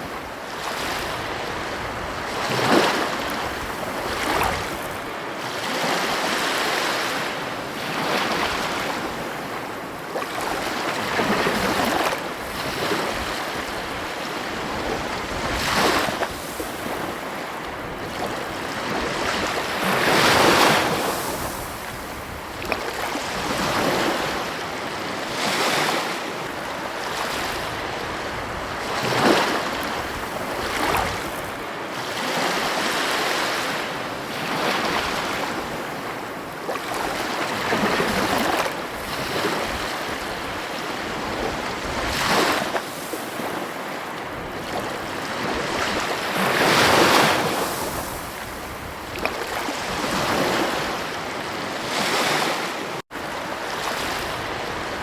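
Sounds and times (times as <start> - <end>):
wind on microphone: 0.0 - 6.4, 10.4 - 55.0
ocean waves breaking: 0.0 - 55.0.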